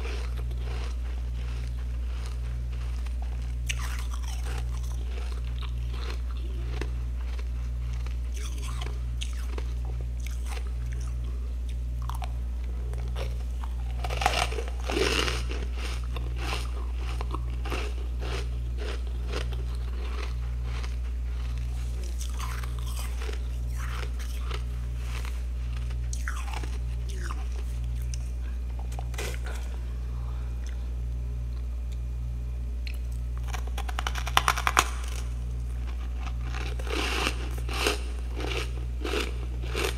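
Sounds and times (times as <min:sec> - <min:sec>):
person chewing crunchy frost: 0:00.0 - 0:32.1, 0:32.8 - 0:39.9
steady low hum: 0:00.0 - 0:39.9.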